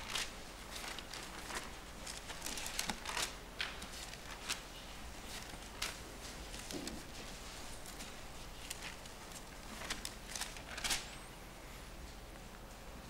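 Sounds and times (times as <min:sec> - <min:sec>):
pages turning and rustling: 0:00.0 - 0:11.3
faint steady hum: 0:00.0 - 0:13.0.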